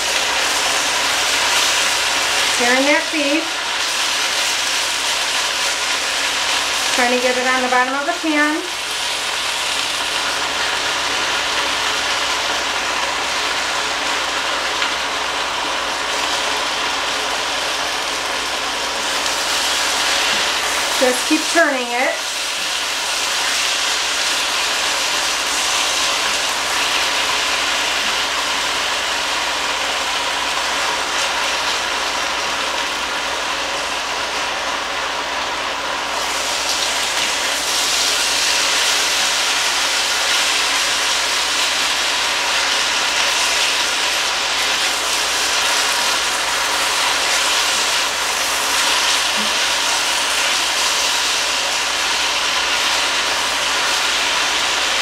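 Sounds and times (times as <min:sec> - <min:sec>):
beef sizzling in a pot: 0:00.0 - 0:55.0.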